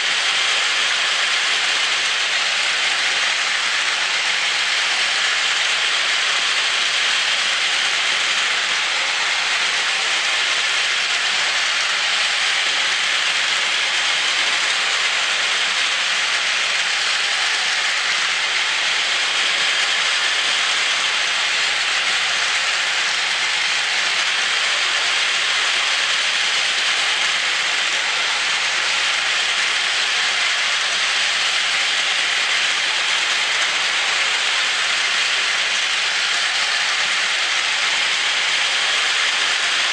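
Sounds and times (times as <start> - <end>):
toy train motors whirring: 0.0 - 39.9
toy train wheels on rails: 0.0 - 39.9.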